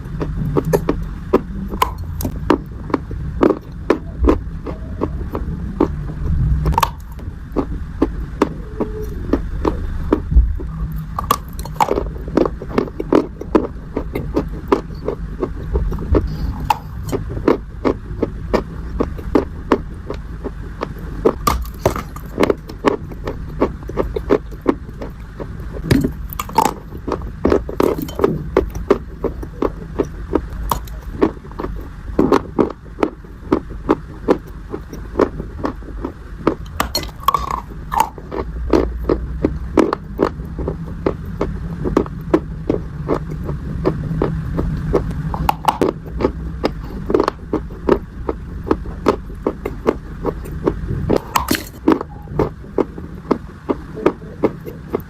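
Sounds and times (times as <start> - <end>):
dry clay crunching: 0.0 - 55.0
steady low hum: 0.0 - 55.0.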